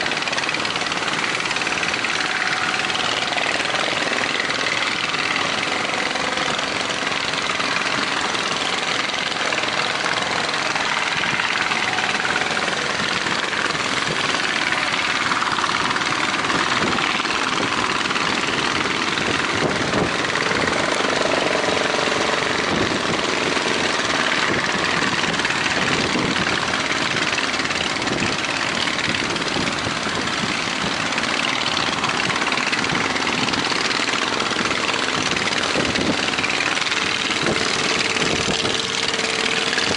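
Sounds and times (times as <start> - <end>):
boat motors running: 0.0 - 39.9.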